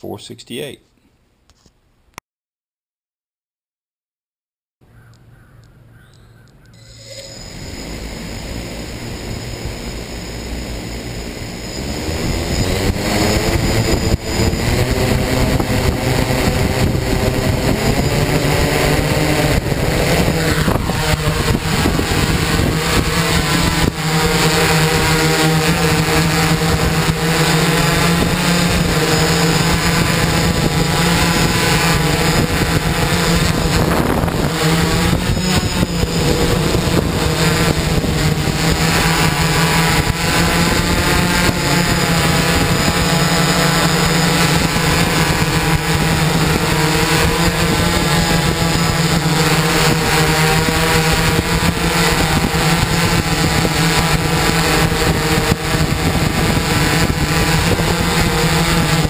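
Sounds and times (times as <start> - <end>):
drone motors humming: 5.0 - 59.0.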